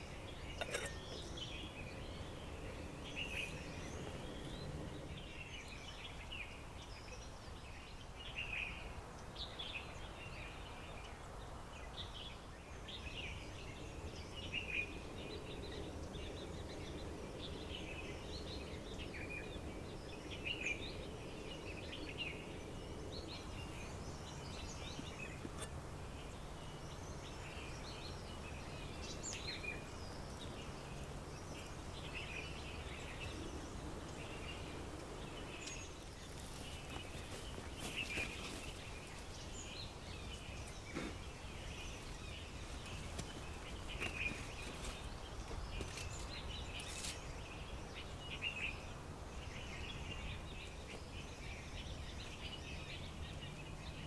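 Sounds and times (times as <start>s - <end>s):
low background noise: 0.0s - 54.0s
small birds chirping: 0.0s - 54.0s.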